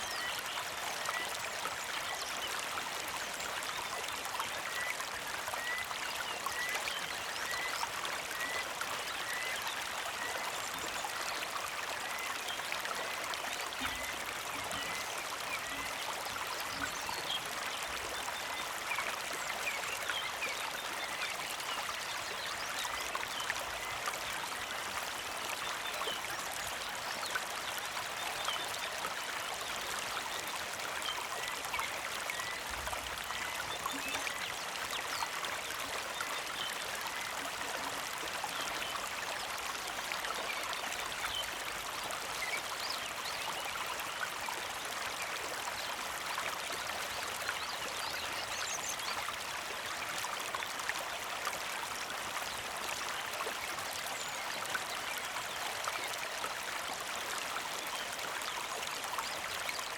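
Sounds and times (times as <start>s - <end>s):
creek trickling: 0.0s - 59.9s.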